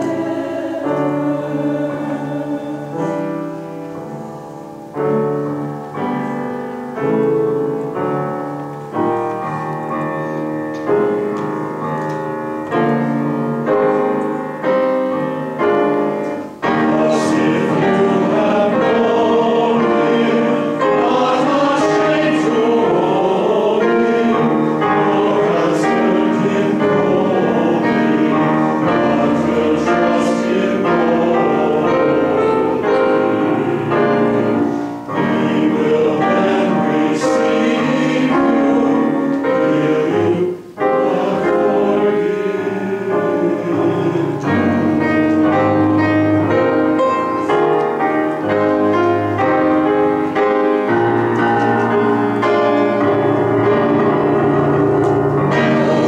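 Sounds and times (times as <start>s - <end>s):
mixed choir singing: 0.0s - 5.4s, 12.7s - 56.0s
piano accompaniment: 0.0s - 56.0s.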